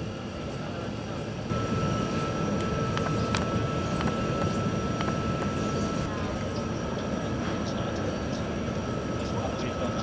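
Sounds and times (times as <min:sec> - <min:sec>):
faint high whine: 0:00.0 - 0:10.0
machinery and ventilation rumble: 0:00.0 - 0:10.0.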